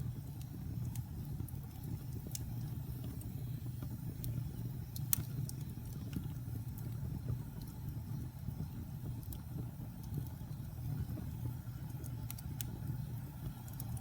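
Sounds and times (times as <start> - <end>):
fire crackles and pops: 0.0 - 14.0
flames rumbling: 0.0 - 14.0.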